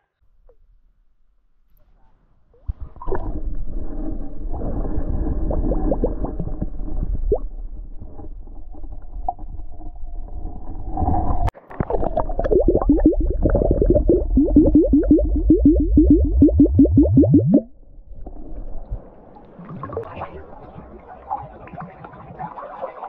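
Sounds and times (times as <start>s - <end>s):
underwater air bubbling and glugging: 2.7s - 22.6s.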